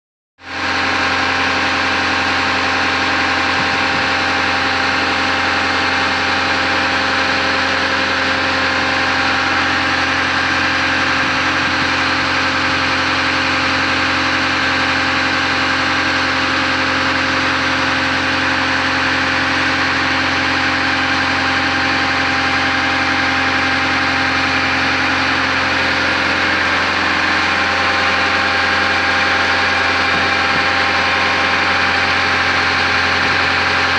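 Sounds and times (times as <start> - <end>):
drill rig engine droning: 0.4 - 33.9.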